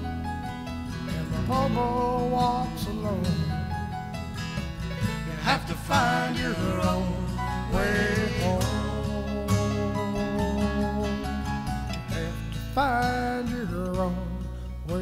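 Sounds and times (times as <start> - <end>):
instrumental country-folk music: 0.0 - 15.0.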